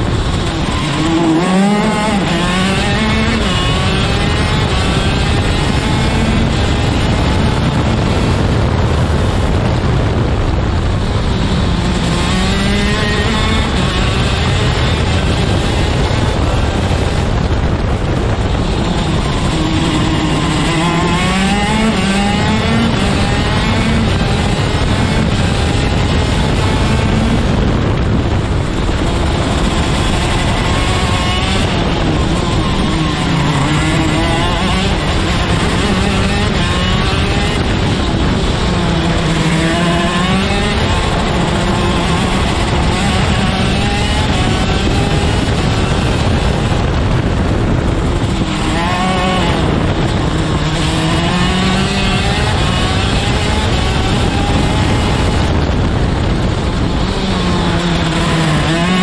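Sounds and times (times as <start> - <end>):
kart engine racing: 0.0 - 59.0
wind buffeting microphone: 0.0 - 59.0.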